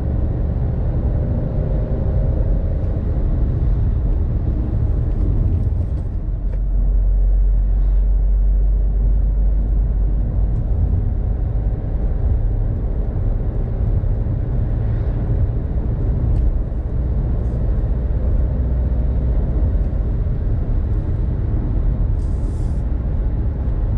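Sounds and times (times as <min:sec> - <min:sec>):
car engine droning: 0:00.0 - 0:23.9.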